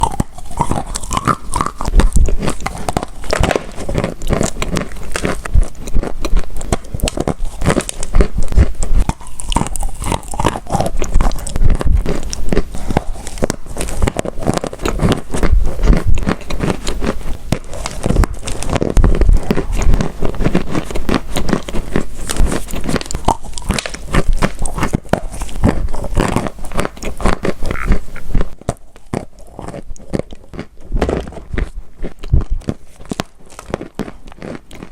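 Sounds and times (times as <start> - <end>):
crunchy chewing: 0.0 - 34.9.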